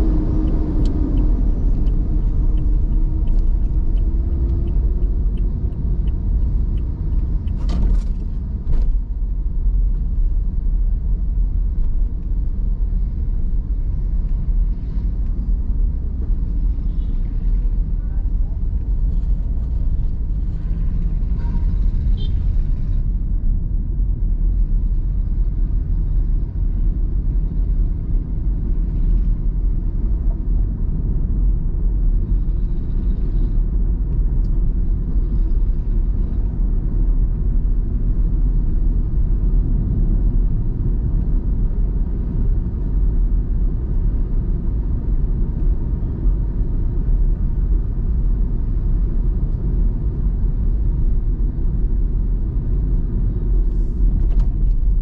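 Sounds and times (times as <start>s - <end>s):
car interior road and engine rumble: 0.0s - 55.0s.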